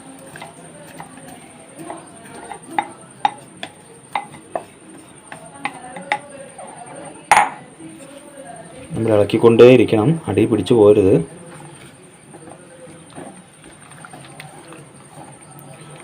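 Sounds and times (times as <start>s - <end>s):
spoon scraping clay pot: 0.0s - 8.3s, 10.9s - 16.0s
water boiling: 0.0s - 16.0s.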